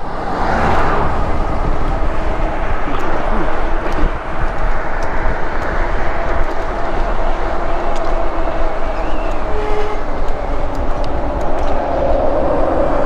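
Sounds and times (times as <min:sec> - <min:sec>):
road noise: 0:00.0 - 0:13.0
wind rush on microphone: 0:00.0 - 0:13.0.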